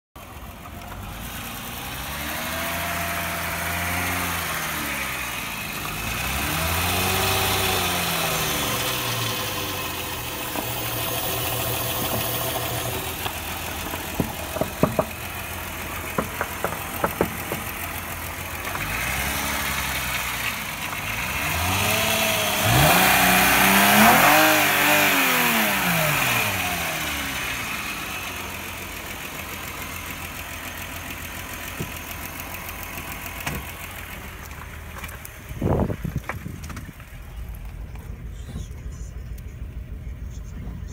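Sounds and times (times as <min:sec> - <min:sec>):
van engine revving and idling: 0:00.2 - 0:40.9.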